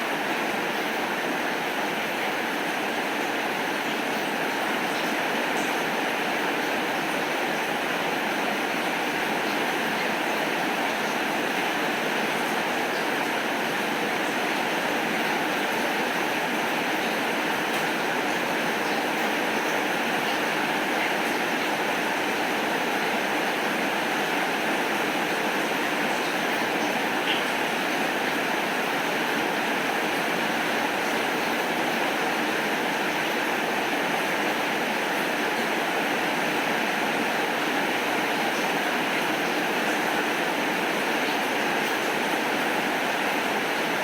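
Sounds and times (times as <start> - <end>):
heavy rainfall: 0.0 - 44.0.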